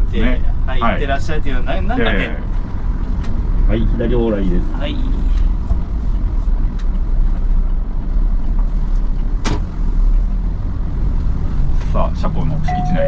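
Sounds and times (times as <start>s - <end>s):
coach engine and road rumble: 0.0s - 13.0s.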